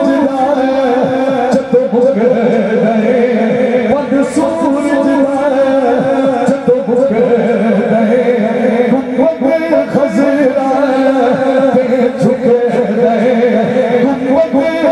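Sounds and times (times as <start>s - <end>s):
man singing devotional song: 0.0s - 14.9s.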